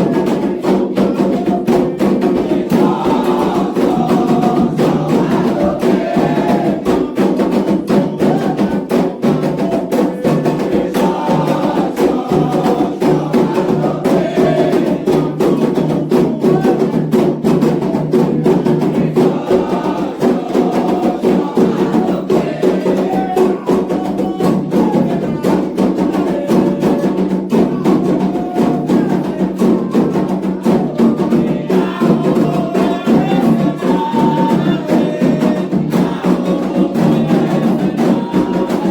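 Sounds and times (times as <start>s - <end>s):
hand drums rhythm: 0.0s - 38.9s
voices singing: 0.0s - 38.9s.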